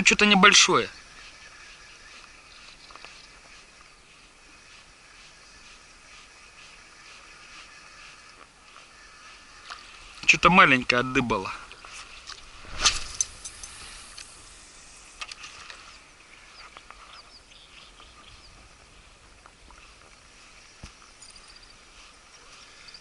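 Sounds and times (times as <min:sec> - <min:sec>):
soft steady hiss: 0:00.0 - 0:23.0.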